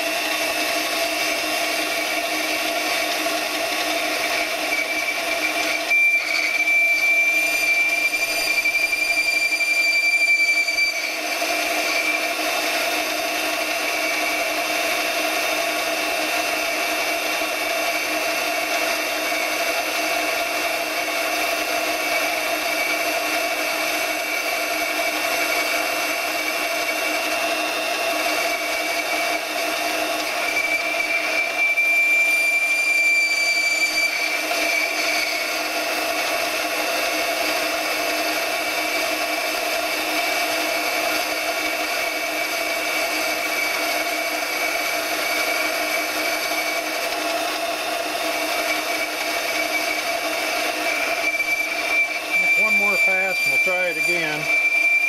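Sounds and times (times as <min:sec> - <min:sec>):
high-pitched cutting squeal: 0:00.0 - 0:39.9, 0:40.8 - 0:55.0
metal lathe running: 0:00.0 - 0:55.0.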